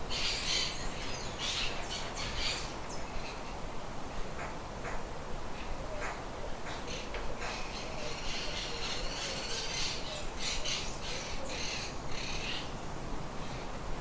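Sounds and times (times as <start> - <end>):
birds calling noisily: 0.0 - 12.8.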